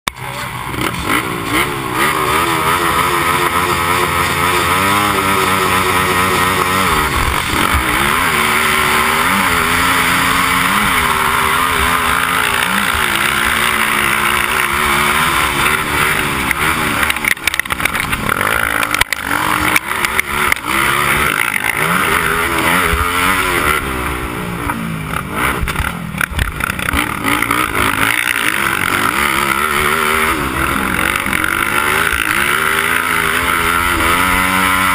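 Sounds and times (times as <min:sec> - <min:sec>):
other quad engines: 0:00.0 - 0:34.9
quad engine revving: 0:00.1 - 0:34.9.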